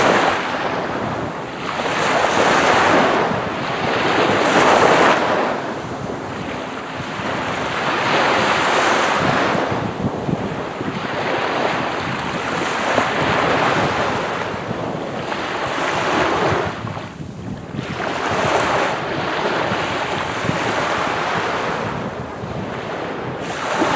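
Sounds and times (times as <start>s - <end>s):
sea waves breaking on beach: 0.0s - 23.9s
wind buffeting microphone: 0.0s - 23.9s.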